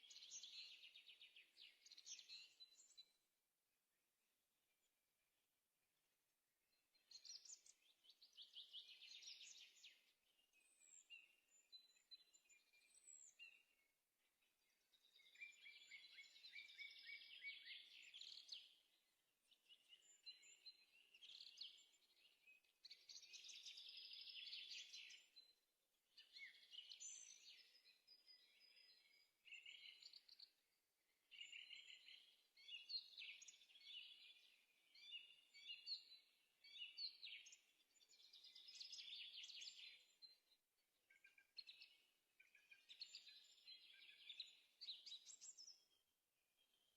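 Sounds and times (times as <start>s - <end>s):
songbird trills and chirps: 0.0s - 3.3s, 6.7s - 46.9s.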